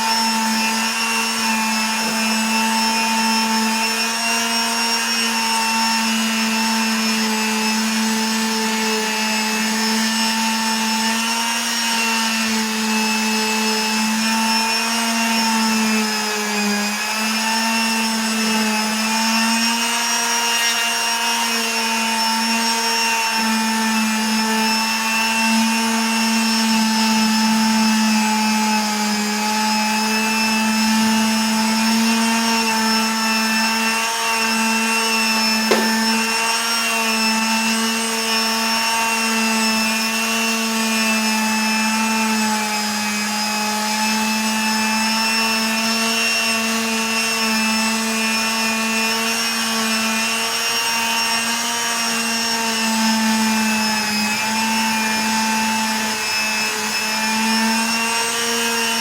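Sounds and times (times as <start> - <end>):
electric power tool whine: 0.0 - 59.0.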